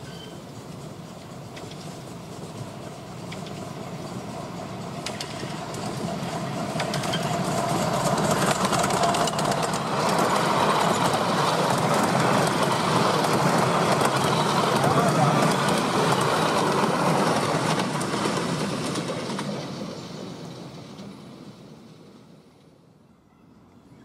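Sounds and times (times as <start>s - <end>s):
wheels clicking on rails: 0.0s - 21.2s
miniature steam train passing: 0.0s - 24.0s.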